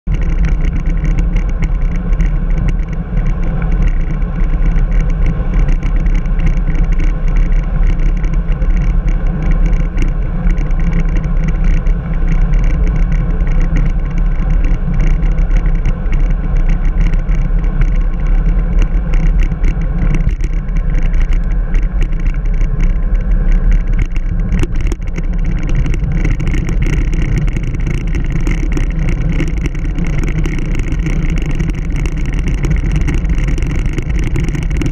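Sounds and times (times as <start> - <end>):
bike tyre rumble on asphalt: 0.0 - 34.9
wind buffeting microphone: 0.0 - 34.9.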